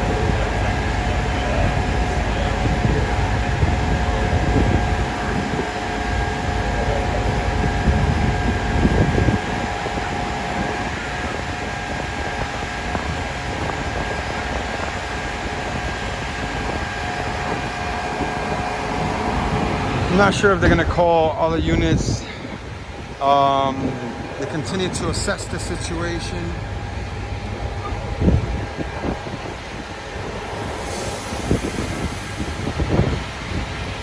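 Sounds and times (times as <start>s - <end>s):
fire engines droning: 0.0s - 34.0s
wind buffeting microphone: 0.0s - 34.0s.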